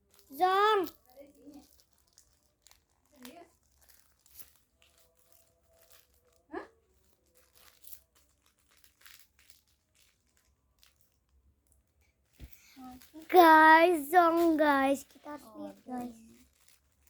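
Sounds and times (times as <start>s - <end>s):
plastic packaging crinkling: 0.0s - 11.4s, 12.6s - 17.0s.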